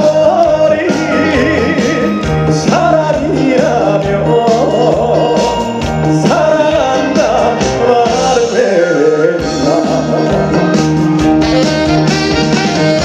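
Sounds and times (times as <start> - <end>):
live band playing upbeat song: 0.0 - 13.0.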